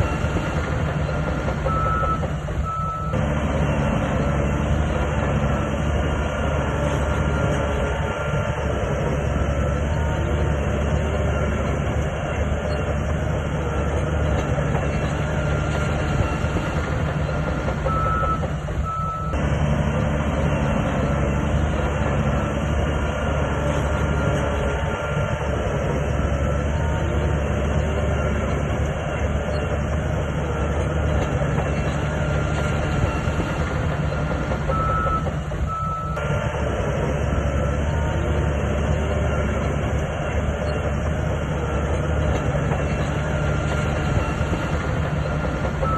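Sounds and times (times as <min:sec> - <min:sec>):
diesel engine under load: 0:00.0 - 0:45.9.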